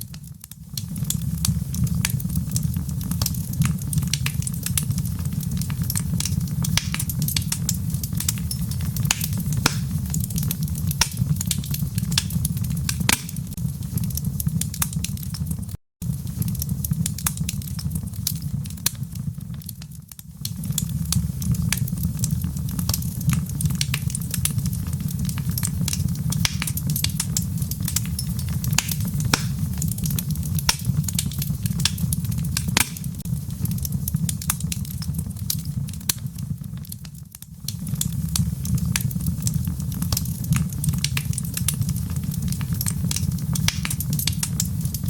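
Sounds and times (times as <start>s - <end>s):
low rumble of rain: 0.0s - 45.0s
wood fire crackling and popping: 0.0s - 45.0s.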